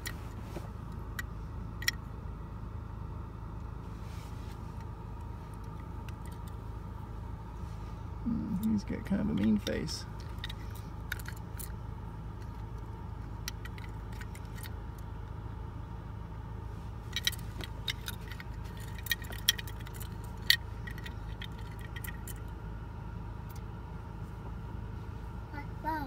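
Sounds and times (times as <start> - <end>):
low rumble of car cabin: 0.0 - 26.0.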